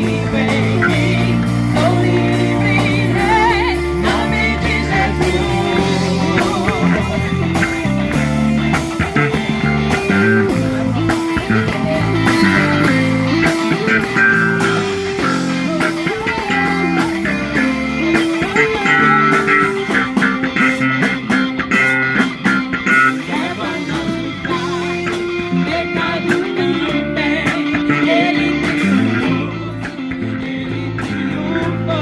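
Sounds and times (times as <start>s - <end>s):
band accompaniment: 0.0s - 32.0s
guitar lead melody: 0.0s - 32.0s.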